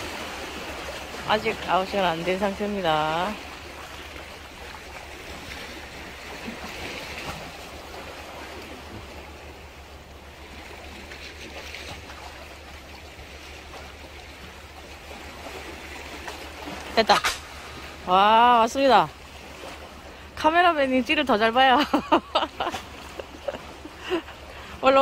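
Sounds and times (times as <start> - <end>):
water lapping against concrete: 0.0 - 25.0.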